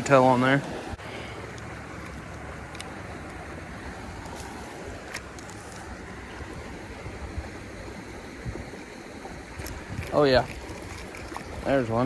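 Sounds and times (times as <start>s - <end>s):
creek water rushing: 0.0s - 12.0s
wind buffeting microphone: 0.0s - 12.0s.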